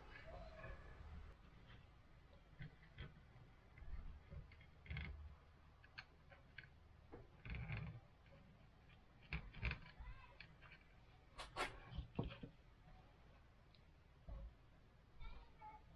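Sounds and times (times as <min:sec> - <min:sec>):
small parts clicking and knocking: 0:01.4 - 0:14.7.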